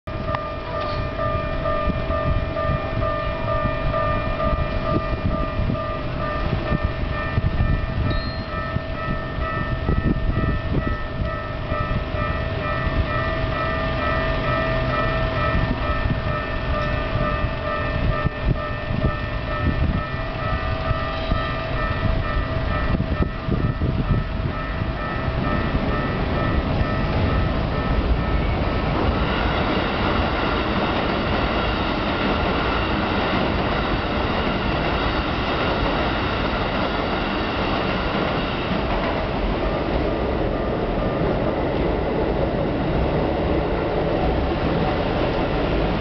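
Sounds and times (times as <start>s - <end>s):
crossing warning bell ringing: 0.1s - 46.0s.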